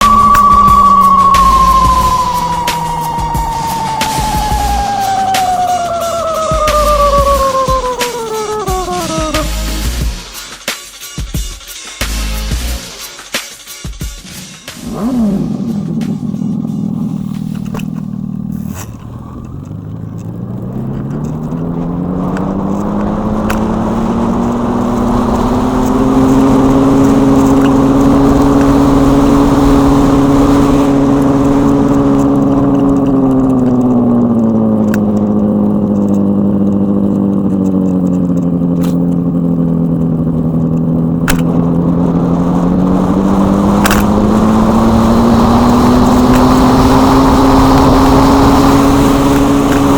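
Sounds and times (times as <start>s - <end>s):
simulated engine sound from speakers: 0.0s - 10.2s, 14.5s - 49.9s.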